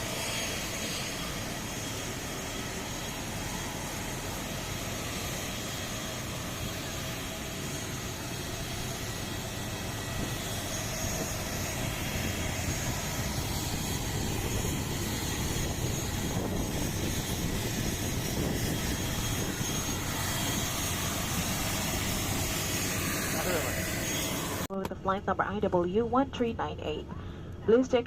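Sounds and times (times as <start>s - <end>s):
turboprop aircraft running: 0.0s - 28.0s.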